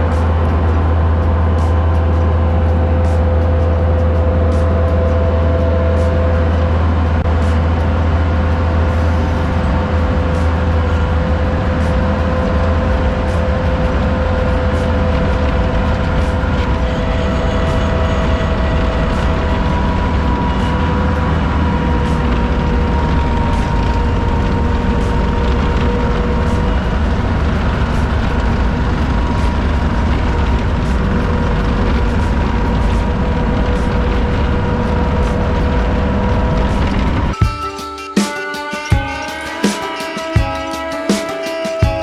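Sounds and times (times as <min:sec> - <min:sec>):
vehicle engine droning: 0:00.0 - 0:37.4
faint whine: 0:00.0 - 0:38.4.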